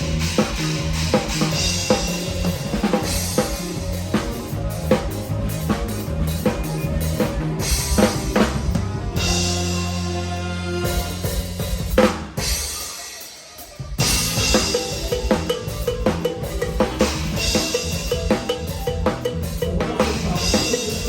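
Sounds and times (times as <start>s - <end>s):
bass line: 0.0s - 12.6s, 14.0s - 21.0s
cymbals: 0.0s - 21.0s
drum kit: 0.0s - 21.0s.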